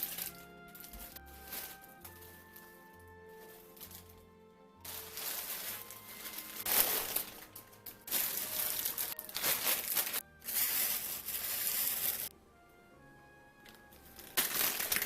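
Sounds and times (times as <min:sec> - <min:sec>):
plastic packaging crinkling: 0:00.0 - 0:04.2, 0:04.9 - 0:12.3, 0:13.7 - 0:15.0
faint background music: 0:00.0 - 0:15.0.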